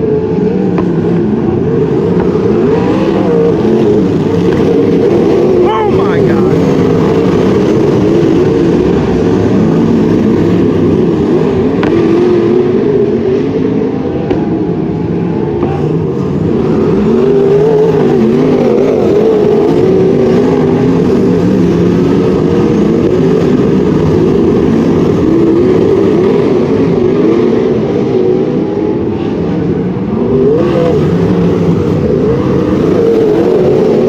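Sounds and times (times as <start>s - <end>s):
racing car engines: 0.0s - 34.0s.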